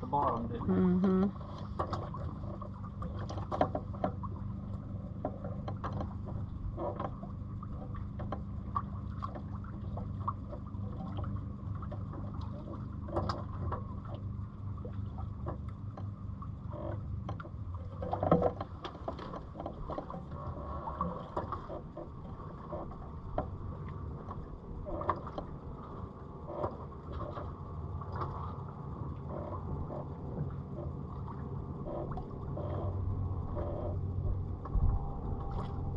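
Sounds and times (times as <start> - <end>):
boat ticks knocks and creaks: 0.0 - 35.9
low rumble: 0.0 - 35.9.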